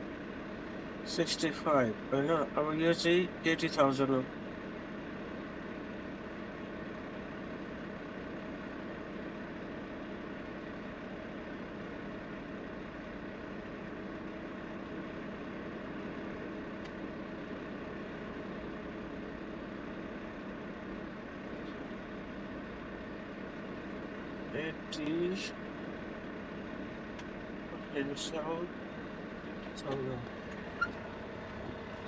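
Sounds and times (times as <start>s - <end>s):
truck engine idling: 2.9s - 32.0s.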